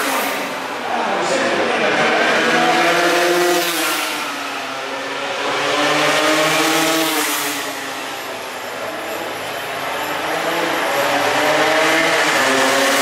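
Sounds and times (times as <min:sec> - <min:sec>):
racing motorcycles passing: 0:00.0 - 0:13.0.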